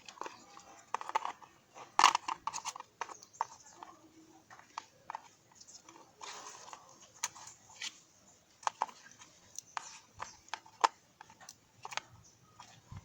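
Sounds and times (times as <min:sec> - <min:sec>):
small clicks and taps: 0:00.0 - 0:13.0.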